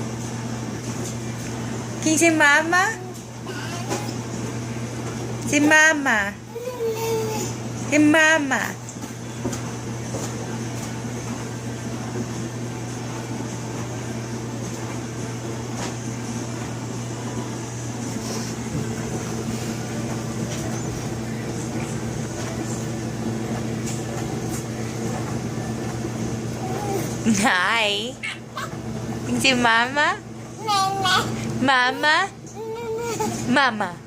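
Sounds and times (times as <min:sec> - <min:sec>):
dishwasher running: 0:00.0 - 0:34.0.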